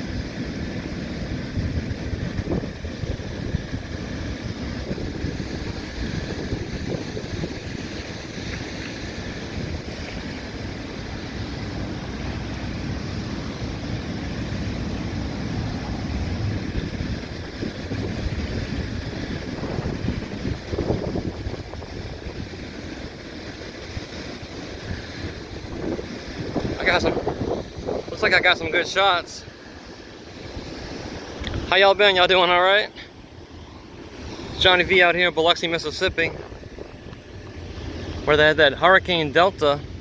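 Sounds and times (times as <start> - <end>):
wind buffeting microphone: 0.0 - 32.3, 33.1 - 40.0
waves washing: 0.0 - 40.0.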